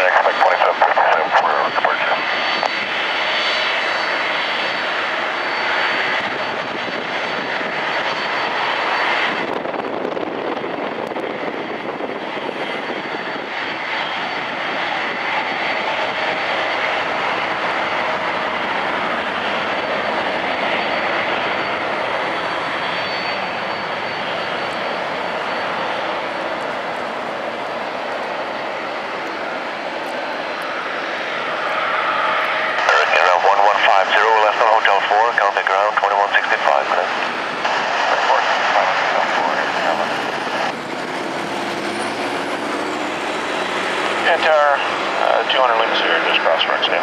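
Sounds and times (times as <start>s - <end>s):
jet airliner engines: 0.0s - 47.0s.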